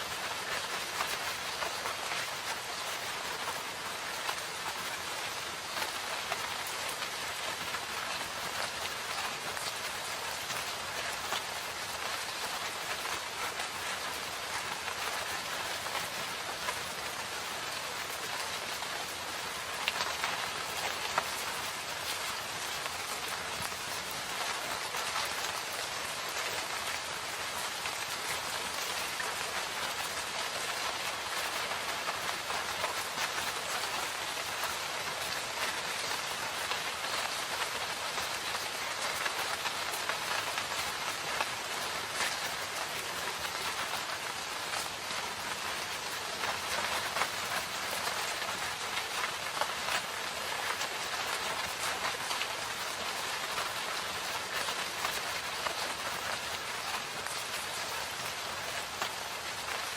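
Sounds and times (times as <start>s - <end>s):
louder raindrops: 0.0s - 59.9s
rain falling in forest: 0.0s - 59.9s.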